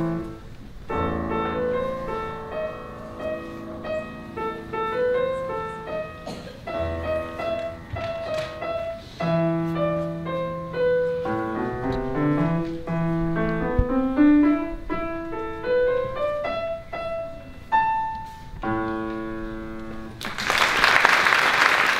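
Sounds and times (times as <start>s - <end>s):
solo piano piece: 0.0s - 20.3s.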